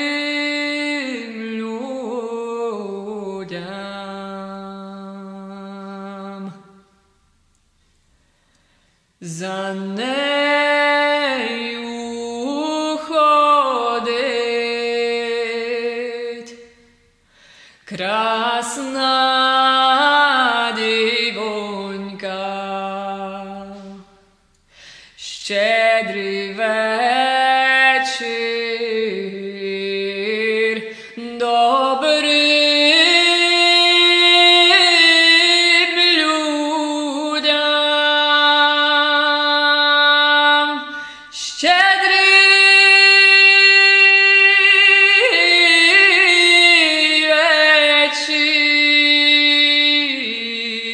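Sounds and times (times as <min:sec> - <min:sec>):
woman singing unaccompanied: 0:00.0 - 0:06.8, 0:09.2 - 0:16.8, 0:17.9 - 0:24.2, 0:25.2 - 0:50.9.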